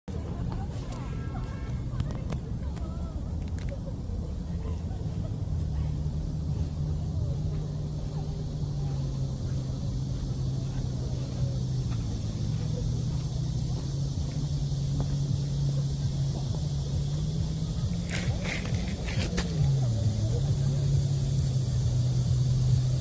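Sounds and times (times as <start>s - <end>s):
cicadas high hiss: 0.1s - 23.0s
low motor hum: 0.1s - 23.0s.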